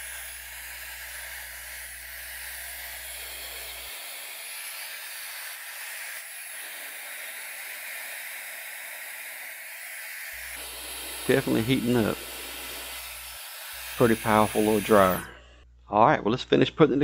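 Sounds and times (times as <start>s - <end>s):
hair dryer running: 0.0s - 15.6s.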